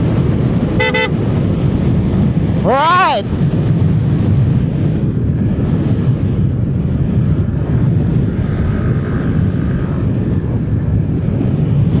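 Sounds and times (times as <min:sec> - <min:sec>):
motorcycle engine rumble: 0:00.0 - 0:12.0
wind rumble: 0:00.0 - 0:12.0.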